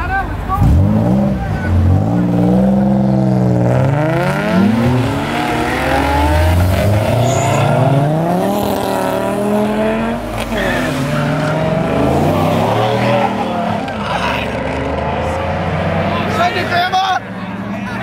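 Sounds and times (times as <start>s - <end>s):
car engines revving and accelerating: 0.0s - 18.0s.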